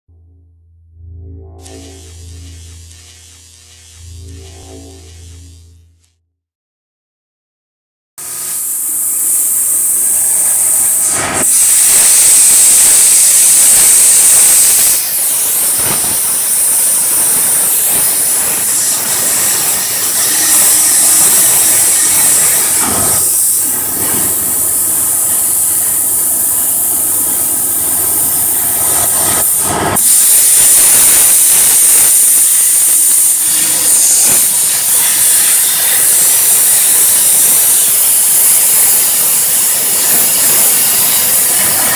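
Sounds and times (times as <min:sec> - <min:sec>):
plasma torch hissing: 0:01.6 - 0:05.6, 0:08.5 - 0:41.9.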